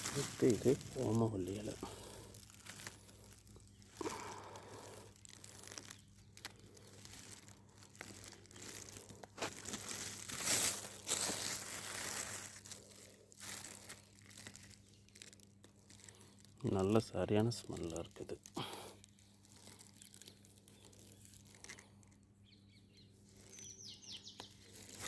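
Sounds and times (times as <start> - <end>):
leaves snapping: 0.0 - 22.2, 24.3 - 25.0
leaves rustling and crinkling: 0.0 - 25.0.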